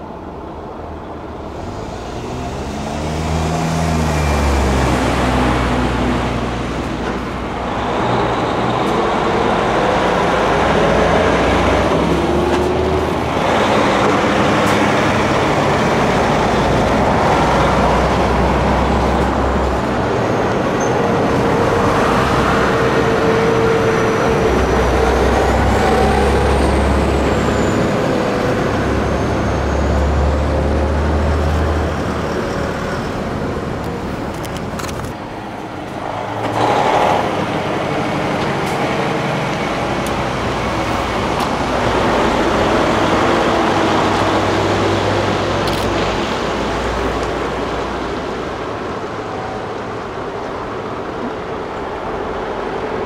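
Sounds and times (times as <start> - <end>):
diesel truck engines throbbing: 0.0 - 53.0
tyre and road noise: 0.0 - 53.0.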